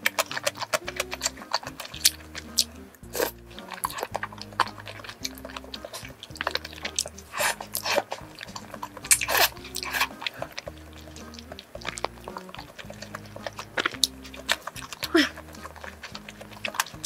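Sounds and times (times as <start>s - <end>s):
noodles being slurped and chewed: 0.0s - 17.0s
soft background music: 0.0s - 17.0s.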